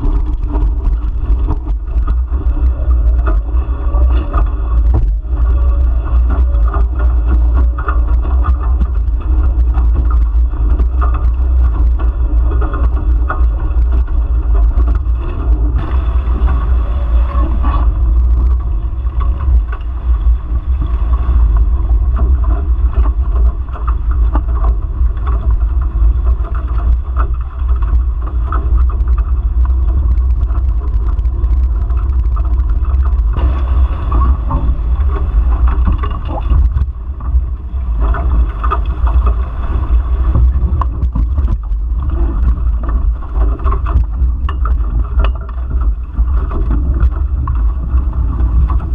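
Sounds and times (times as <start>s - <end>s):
water rushing past hulls: 0.0s - 48.9s
wind buffeting microphone: 0.0s - 48.9s.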